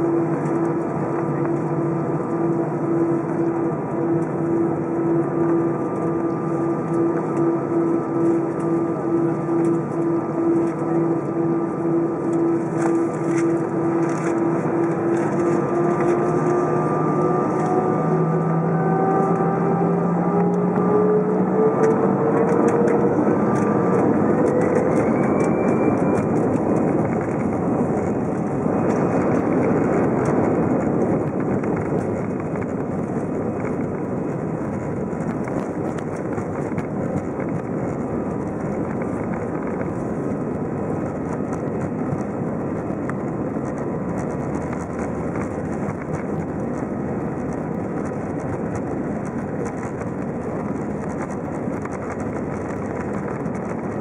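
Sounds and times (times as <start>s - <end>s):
jet engine roar and rumble: 0.0s - 54.0s
jet engine whine rising: 0.0s - 54.0s.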